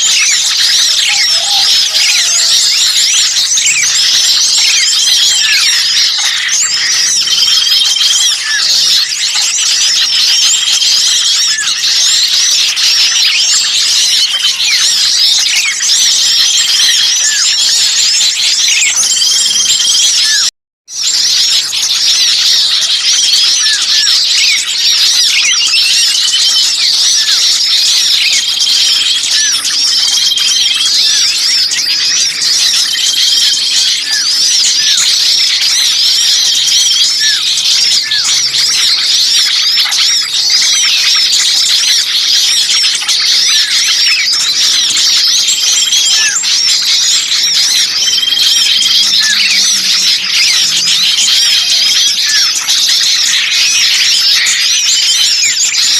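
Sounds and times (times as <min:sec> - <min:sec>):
songbirds chattering and chirping: 0:00.0 - 0:55.9.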